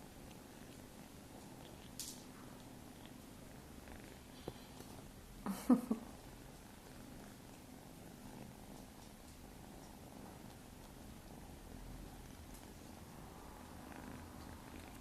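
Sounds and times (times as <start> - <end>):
kitten purring: 0.0 - 15.0.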